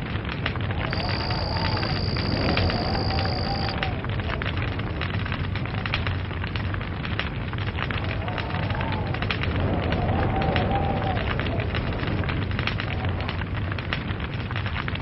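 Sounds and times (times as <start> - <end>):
log fire crackling and popping: 0.0 - 15.0
low rumble of burning: 0.0 - 15.0.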